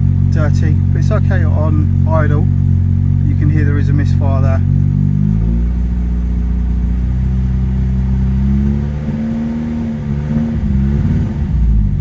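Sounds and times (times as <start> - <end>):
car engine idling with misfire: 0.0 - 12.0.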